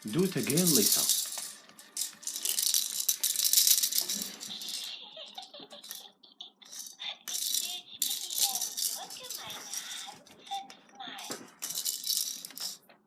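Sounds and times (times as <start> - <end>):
toy baby rattle shaken: 0.0 - 10.3, 11.2 - 12.8.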